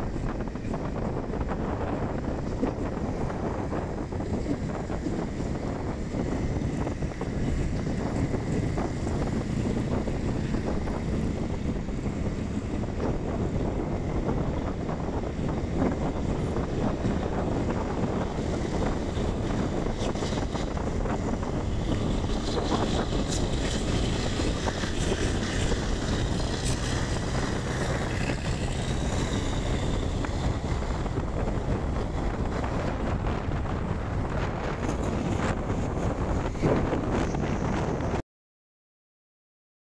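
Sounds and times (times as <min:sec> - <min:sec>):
road and engine noise: 0:00.0 - 0:38.2
wind on microphone: 0:00.0 - 0:38.2.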